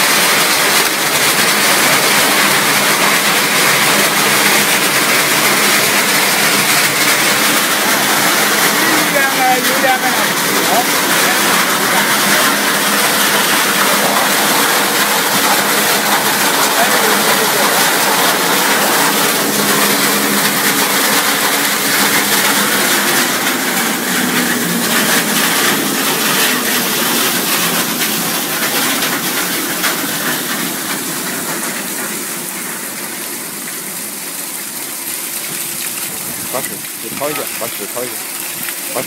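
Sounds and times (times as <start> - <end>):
water gushing and splashing: 0.0 - 39.0.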